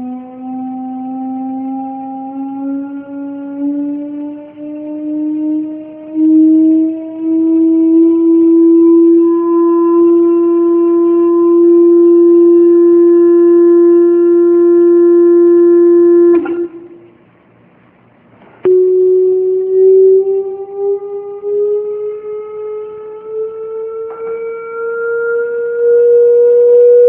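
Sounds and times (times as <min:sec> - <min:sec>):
buzzy electronic tone rising: 0:00.0 - 0:17.3, 0:18.7 - 0:27.0.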